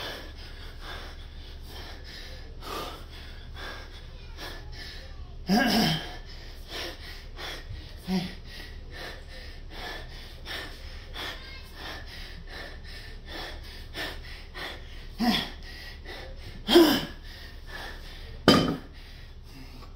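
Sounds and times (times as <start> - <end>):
man panting hard: 0.0 - 19.9.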